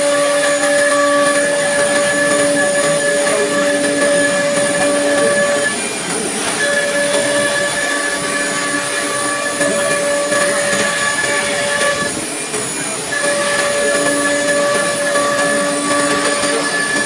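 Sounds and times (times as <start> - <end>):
router spindle whine: 0.0 - 17.0.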